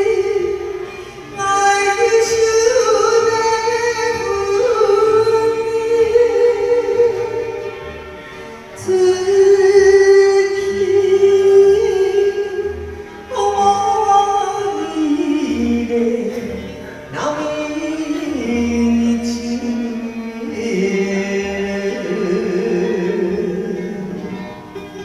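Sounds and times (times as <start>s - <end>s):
woman singing into microphone: 0.0s - 7.8s, 8.8s - 24.4s.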